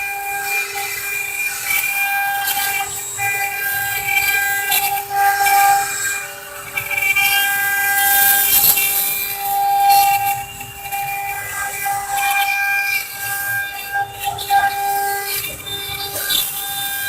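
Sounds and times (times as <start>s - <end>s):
machine motors whining: 0.0s - 17.0s.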